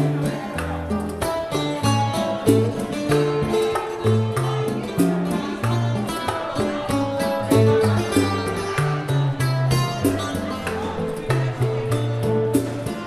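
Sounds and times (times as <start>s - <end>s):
folk guitar plucking and strumming: 0.0s - 13.0s
nylon-string guitar: 0.0s - 13.0s
small percussion kit: 0.0s - 13.0s.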